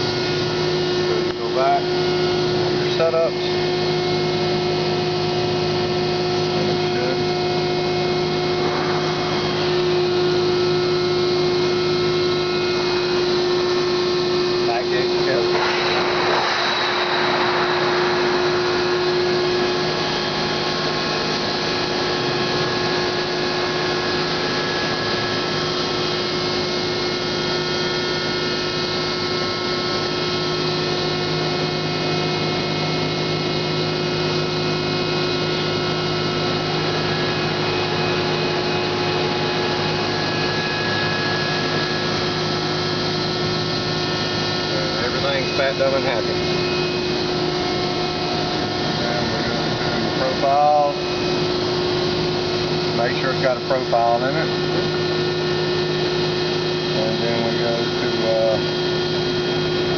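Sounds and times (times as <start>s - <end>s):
hydraulic press machine hum: 0.0s - 59.9s
machine whine: 0.0s - 59.9s.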